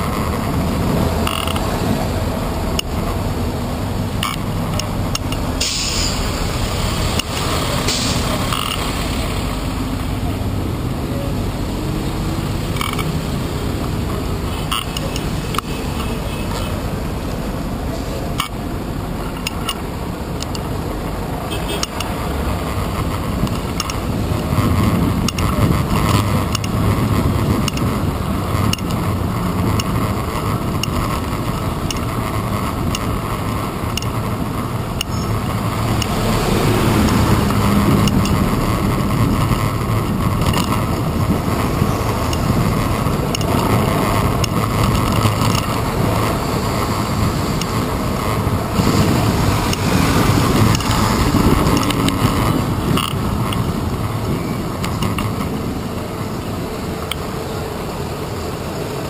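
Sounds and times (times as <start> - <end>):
road and wind noise: 0.0 - 59.0
rumble of passing cars: 0.0 - 59.0.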